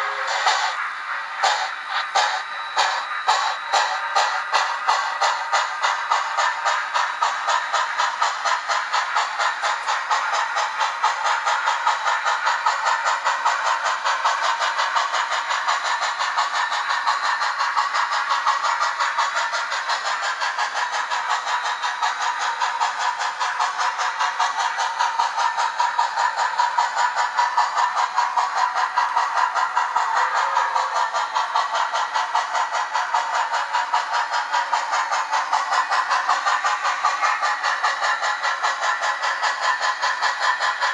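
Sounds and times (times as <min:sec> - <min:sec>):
model steam locomotive chuffing: 0:00.0 - 0:40.9.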